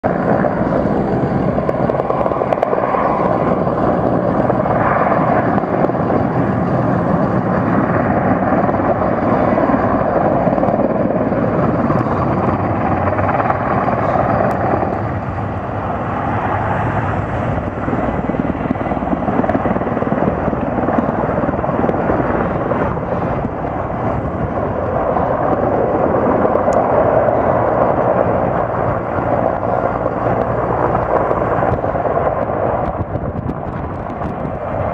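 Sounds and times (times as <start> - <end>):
helicopter hovering: 0.0 - 34.9.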